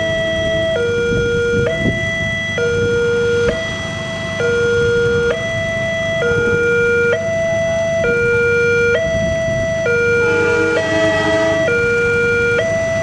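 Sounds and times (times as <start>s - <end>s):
two-tone level crossing alarm: 0.0s - 13.0s.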